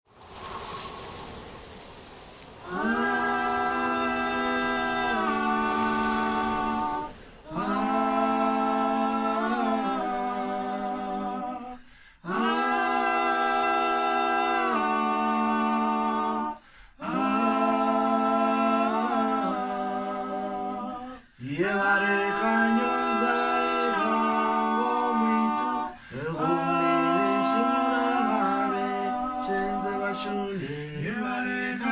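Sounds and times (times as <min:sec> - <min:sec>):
voices singing in close harmony: 0:00.1 - 0:31.9.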